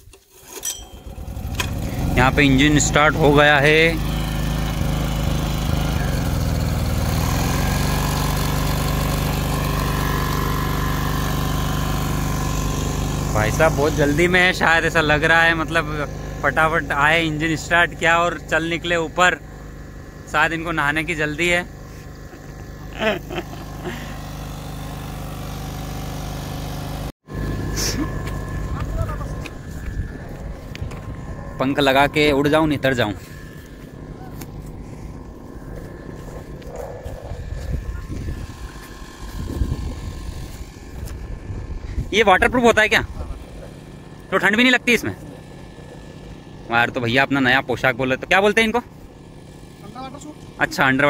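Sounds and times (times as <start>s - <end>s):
thin whine: 0.1s - 26.2s, 27.3s - 51.0s
petrol engine running: 0.7s - 51.0s.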